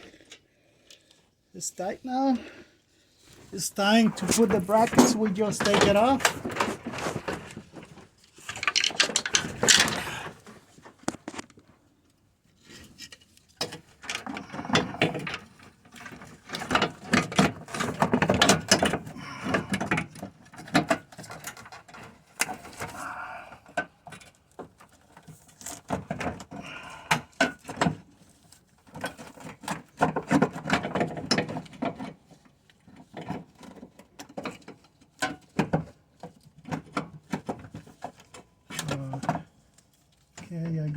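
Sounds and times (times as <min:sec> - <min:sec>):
tools and metal parts clattering: 0:03.5 - 0:11.4, 0:12.8 - 0:23.0, 0:23.7 - 0:40.4.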